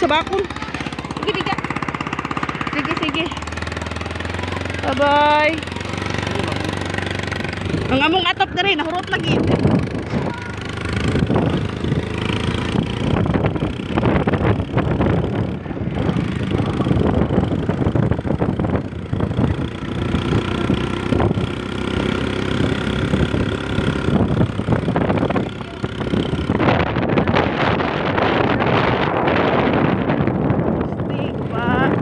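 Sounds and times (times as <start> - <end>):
road and wind noise: 0.0 - 32.0
vehicle engine running: 0.0 - 32.0.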